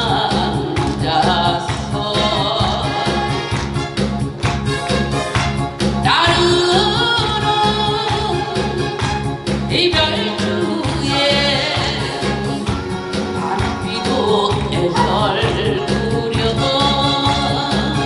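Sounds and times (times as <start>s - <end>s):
woman singing into a microphone: 0.0s - 3.6s, 6.0s - 9.0s, 9.7s - 18.0s
backing music with steady beat: 0.0s - 18.0s.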